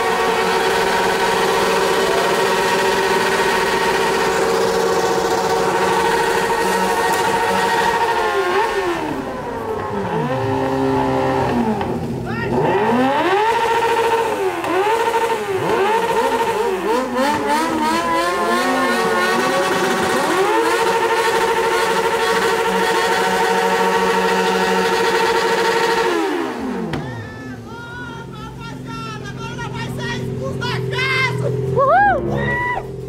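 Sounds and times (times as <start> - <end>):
exhaust blowing water jet: 0.0 - 27.7
motorcycle engines revving: 0.0 - 33.0.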